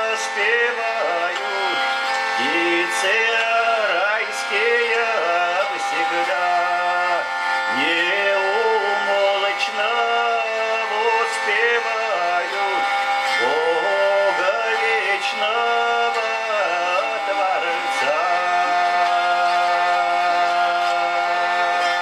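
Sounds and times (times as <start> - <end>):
hurdy-gurdy drone: 0.0 - 22.0
man singing: 0.0 - 22.0.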